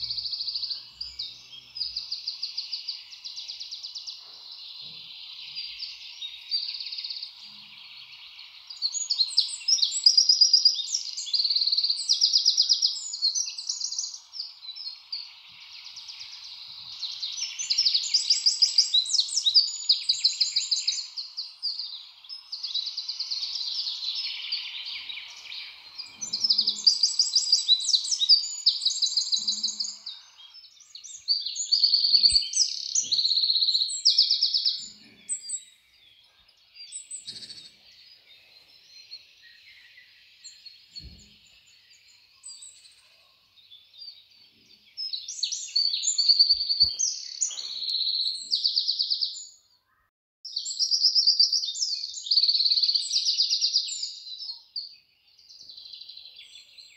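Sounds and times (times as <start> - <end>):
small birds chirping and trilling: 0.0 - 56.9.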